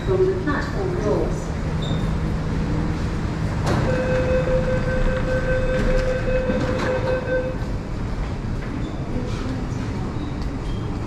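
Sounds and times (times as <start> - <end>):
train steady tone: 0.0 - 11.0.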